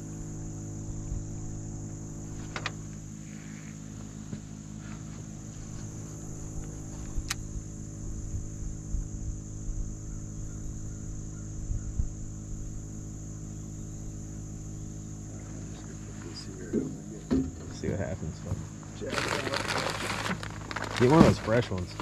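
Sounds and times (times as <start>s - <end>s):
insect chorus drone: 0.0s - 22.0s
low steady hum: 0.0s - 22.0s.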